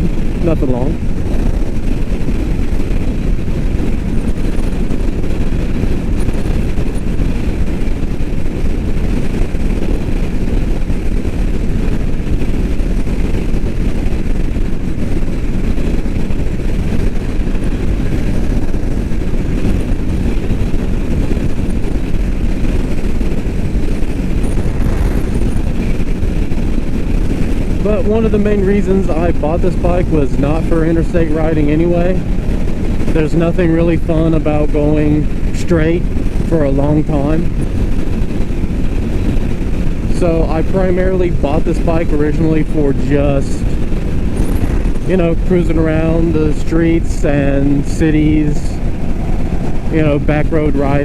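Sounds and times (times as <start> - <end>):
motorcycle engine drone: 0.0 - 51.0
wind rush: 0.0 - 51.0.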